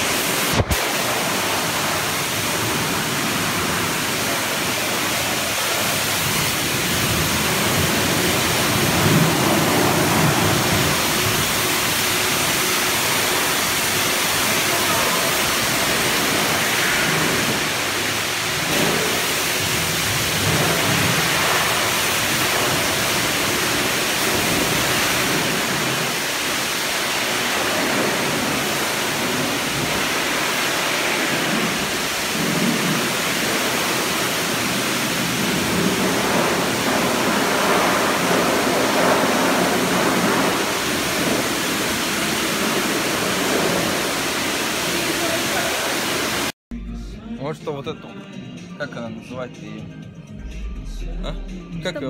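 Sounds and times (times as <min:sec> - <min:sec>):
pressure washer spraying water: 0:00.0 - 0:46.6.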